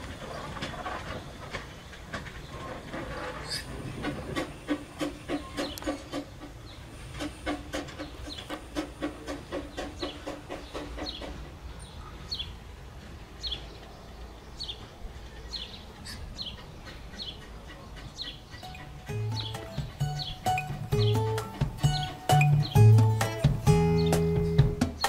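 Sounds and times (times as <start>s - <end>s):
steam locomotive chugging: 0.0s - 14.1s, 15.6s - 25.0s
bird chirping: 3.4s - 12.7s, 13.4s - 25.0s.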